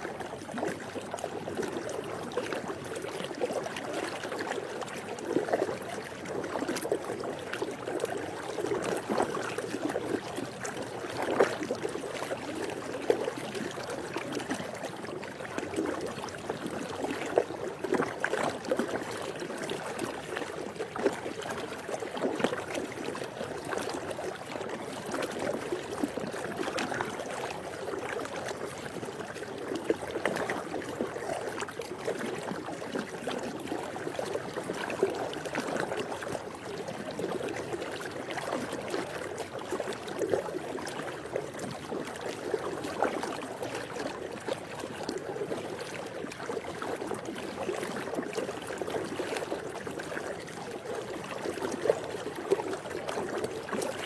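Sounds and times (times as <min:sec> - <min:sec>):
pool water lapping: 0:00.0 - 0:54.0
small splashes and drips: 0:00.0 - 0:54.0.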